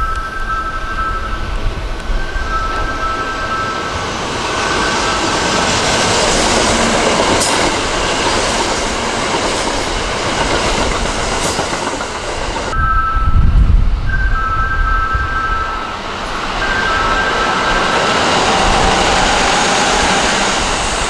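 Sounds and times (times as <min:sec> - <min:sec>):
electric train running past: 0:00.0 - 0:21.0.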